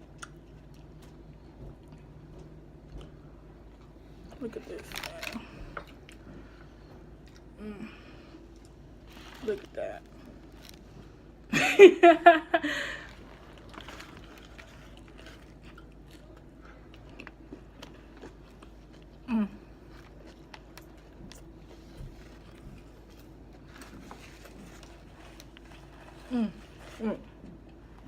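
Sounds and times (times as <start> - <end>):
person chewing and smacking: 0.0 - 7.6, 8.4 - 11.5, 13.1 - 26.3.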